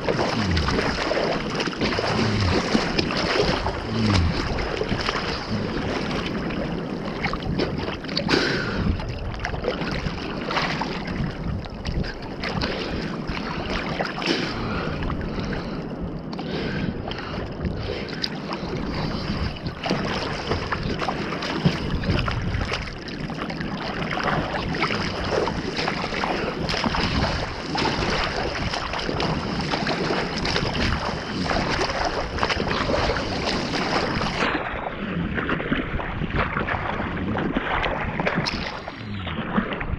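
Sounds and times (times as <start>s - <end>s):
seawater sloshing and splashing: 0.0s - 39.9s
wind on microphone: 0.0s - 39.9s.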